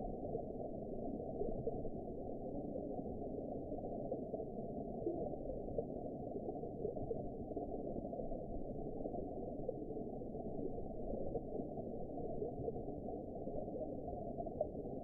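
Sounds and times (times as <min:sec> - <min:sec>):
faint underwater crackles: 0:00.0 - 0:15.0
muffled underwater water noise: 0:00.0 - 0:15.0.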